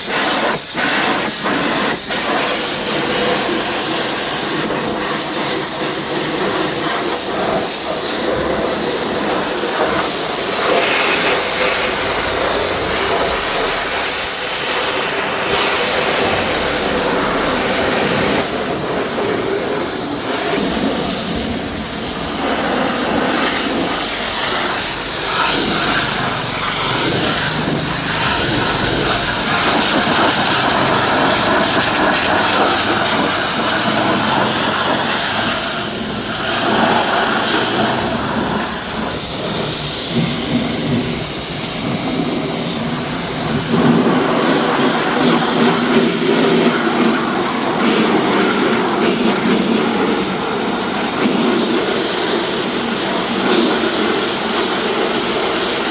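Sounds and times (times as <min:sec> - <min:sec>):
pressure washer spraying: 0:00.0 - 0:55.9.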